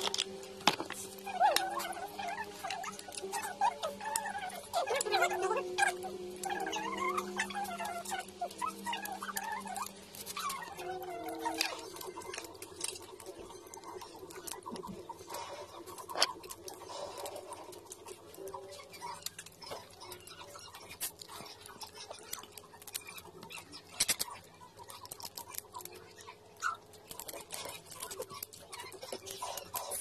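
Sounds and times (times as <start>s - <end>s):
shrimp shells cracking: 0.0s - 15.0s, 15.9s - 30.0s
chewing and mouth sounds: 1.0s - 30.0s.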